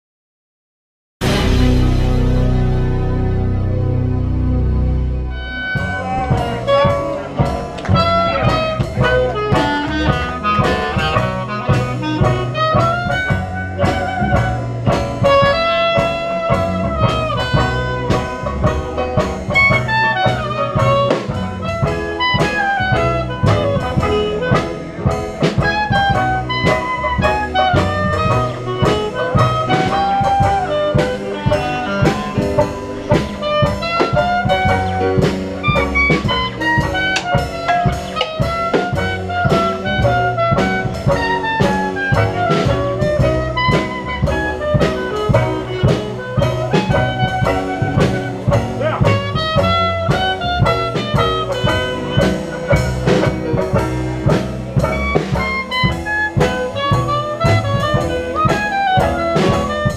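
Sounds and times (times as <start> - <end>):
upbeat jazz with brass and drums: 1.2 - 59.9.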